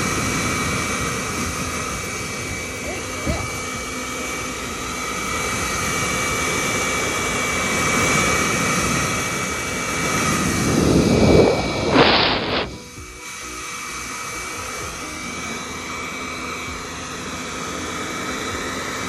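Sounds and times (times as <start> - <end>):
blow dryer whining: 0.0 - 19.0.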